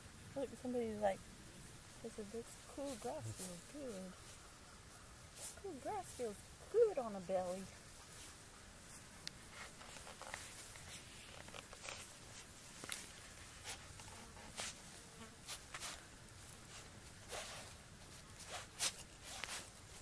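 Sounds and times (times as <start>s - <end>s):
long grass rustling: 0.0s - 20.0s
grass brushing microphone: 2.0s - 4.6s, 5.2s - 20.0s.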